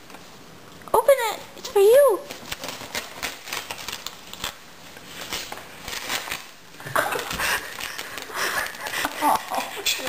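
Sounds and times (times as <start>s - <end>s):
wrapping paper crinkling: 1.9s - 10.0s.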